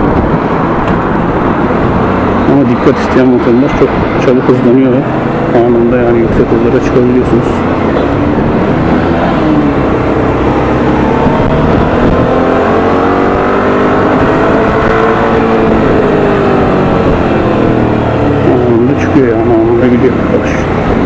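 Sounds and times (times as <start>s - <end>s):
motorcycle engine accelerating: 0.0s - 21.0s
rushing noise: 0.0s - 21.0s.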